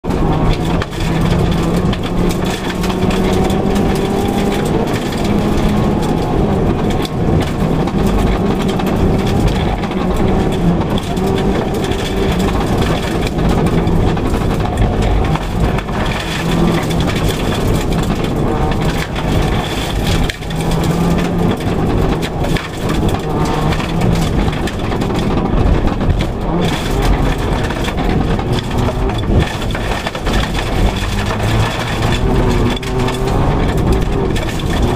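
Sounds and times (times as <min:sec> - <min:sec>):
rally car engine revving: 0:00.0 - 0:34.9
tyres on gravel: 0:00.0 - 0:34.9.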